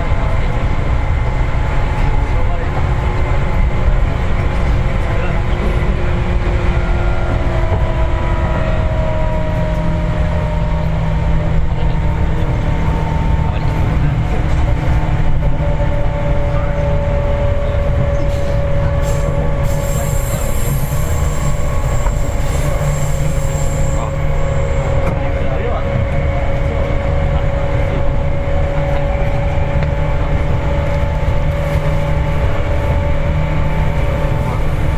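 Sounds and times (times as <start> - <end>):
train wheels rumbling on track: 0.0 - 34.9.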